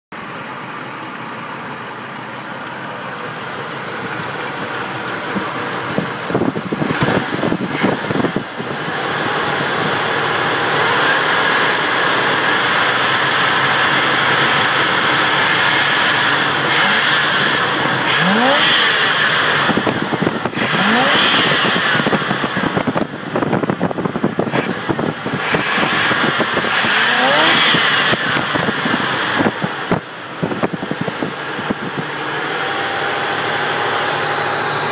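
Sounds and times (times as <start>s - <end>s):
car engine revving: 0.2s - 34.9s.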